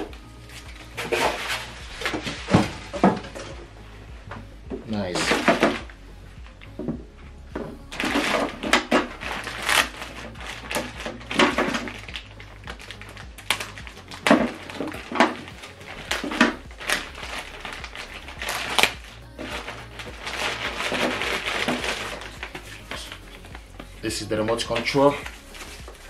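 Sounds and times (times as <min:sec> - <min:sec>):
plastic bag crinkling: 0:00.0 - 0:03.6, 0:07.9 - 0:26.0
soft background music: 0:00.0 - 0:26.0.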